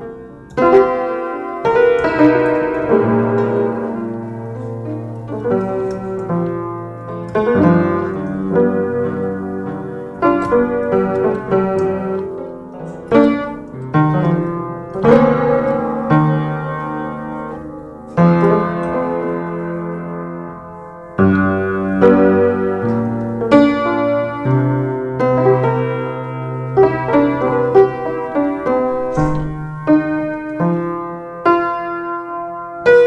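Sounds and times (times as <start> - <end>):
piano chords and notes: 0.0 - 33.0.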